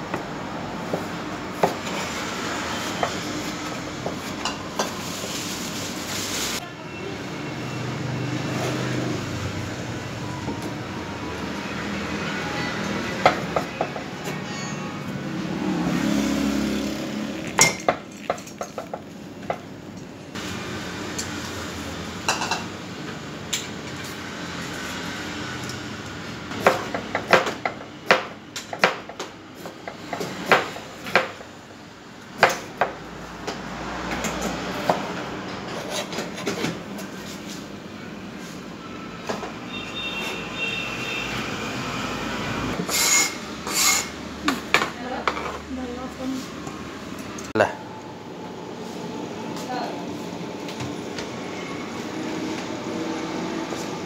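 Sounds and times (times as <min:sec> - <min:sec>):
kitchen background noise: 0:00.0 - 0:47.7.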